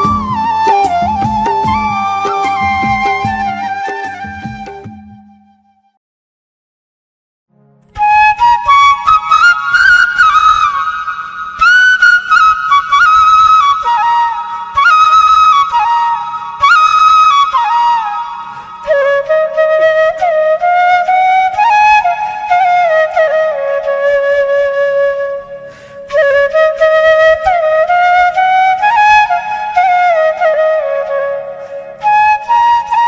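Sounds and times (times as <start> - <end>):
flute playing slow melody: 0.0 - 6.0, 7.9 - 33.0.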